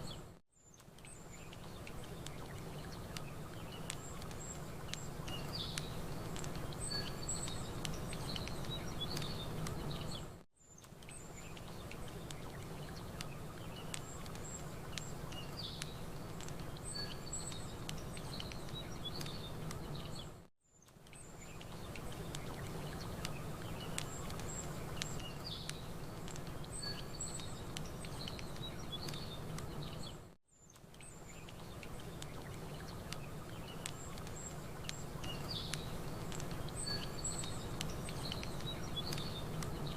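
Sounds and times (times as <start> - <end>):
small birds chirping: 0.0 - 39.9
campfire crackling: 0.7 - 39.9.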